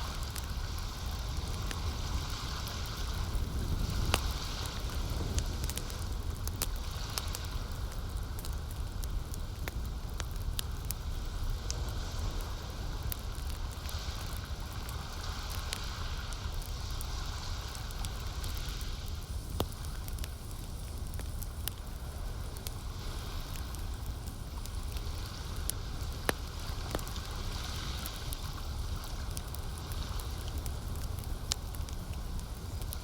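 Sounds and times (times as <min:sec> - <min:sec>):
campfire crackling and popping: 0:00.0 - 0:33.0
low fire rumble: 0:00.0 - 0:33.0.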